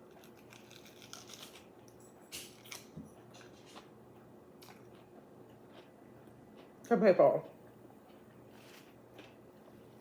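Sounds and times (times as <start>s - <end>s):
chewing crunchy food: 0.0s - 6.8s, 7.5s - 10.0s.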